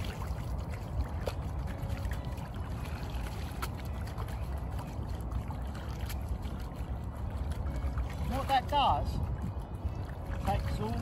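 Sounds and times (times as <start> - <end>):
steady low rumble: 0.0 - 11.0
water sloshing and splashing: 0.0 - 11.0.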